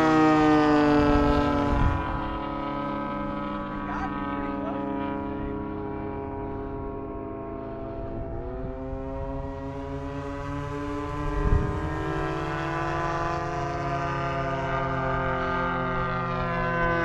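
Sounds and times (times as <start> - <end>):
model airplane engine drone: 0.0 - 17.0.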